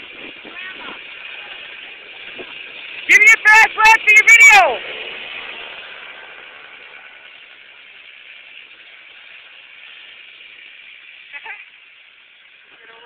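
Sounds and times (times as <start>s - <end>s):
small kart engine running: 0.0s - 13.0s.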